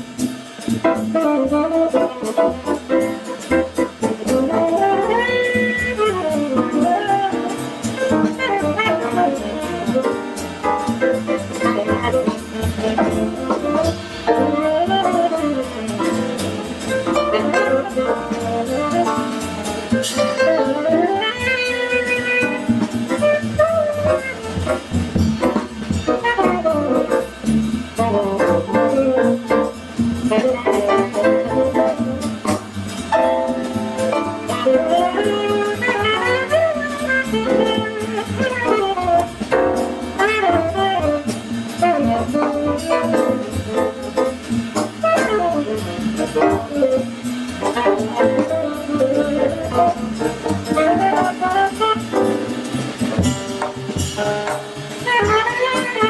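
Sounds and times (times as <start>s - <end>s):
drum kit: 0.0s - 56.0s
piano: 0.0s - 56.0s
upright bass: 0.0s - 56.0s
tenor saxophone lead: 1.0s - 56.0s.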